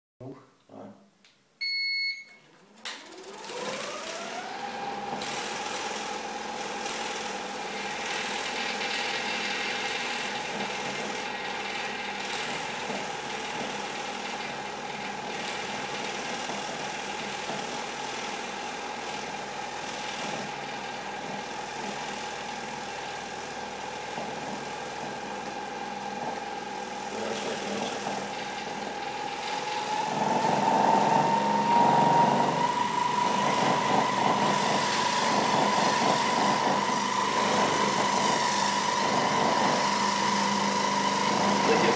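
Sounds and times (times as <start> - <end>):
vibration platform motor whine: 3.0 - 41.9.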